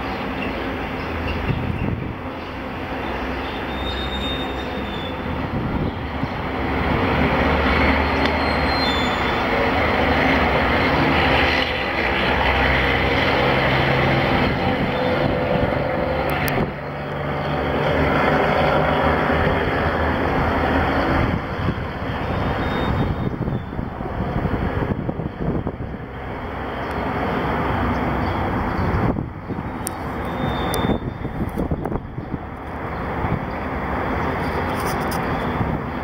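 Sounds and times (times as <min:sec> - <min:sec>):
vehicle noise with low hum: 0:00.0 - 0:36.0.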